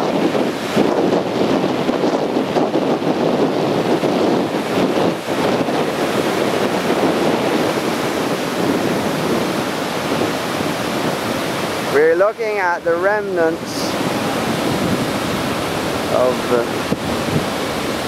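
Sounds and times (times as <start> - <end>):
surf breaking over rocks: 0.0 - 18.0
wind on microphone: 0.0 - 18.0.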